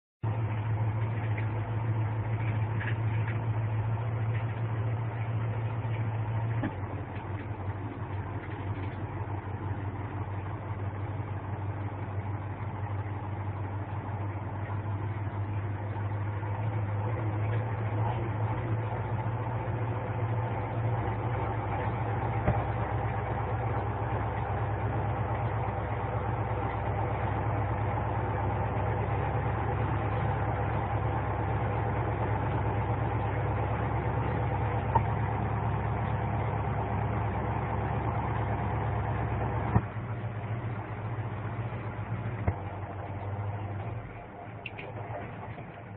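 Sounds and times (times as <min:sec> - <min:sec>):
truck engine humming: 0:00.2 - 0:45.9.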